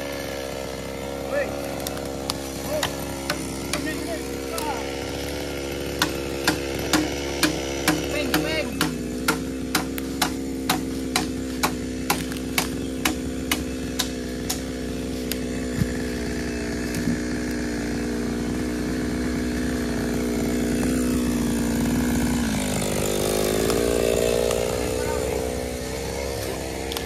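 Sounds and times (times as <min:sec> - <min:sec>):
chainsaw running: 0:00.0 - 0:27.0.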